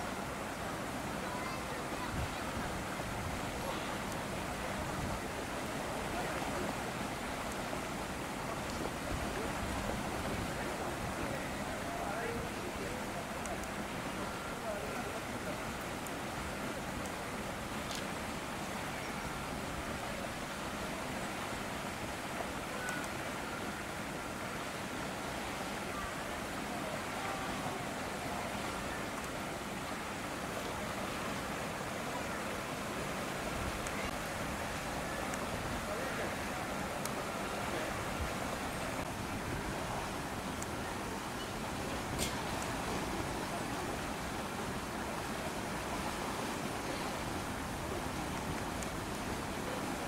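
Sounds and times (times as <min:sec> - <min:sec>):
rushing outdoor noise: 0:00.0 - 0:50.0
faint distant voices: 0:00.4 - 0:50.0.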